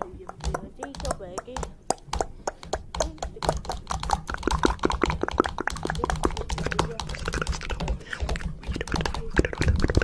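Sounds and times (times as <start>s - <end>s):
rapid clicking: 0.0s - 10.0s.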